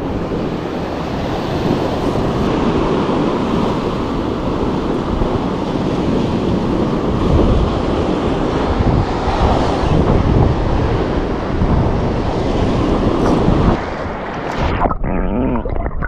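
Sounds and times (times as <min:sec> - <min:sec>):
ocean surf washing in: 0:00.0 - 0:15.9
wind buffeting microphone: 0:00.0 - 0:16.0.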